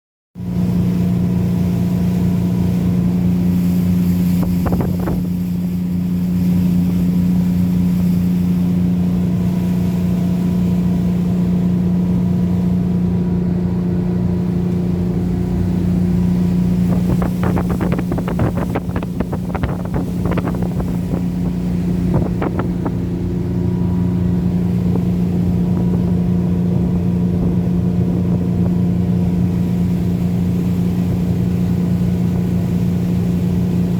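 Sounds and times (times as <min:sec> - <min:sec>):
boat engine humming: 0:00.4 - 0:33.9.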